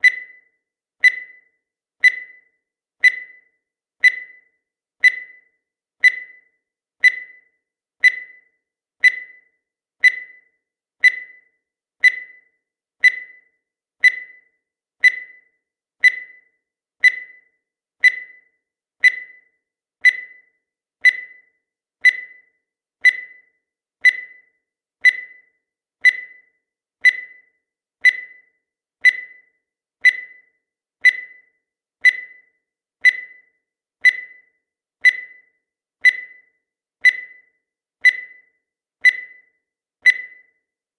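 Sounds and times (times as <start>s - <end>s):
timer ticking: 0.0s - 40.7s.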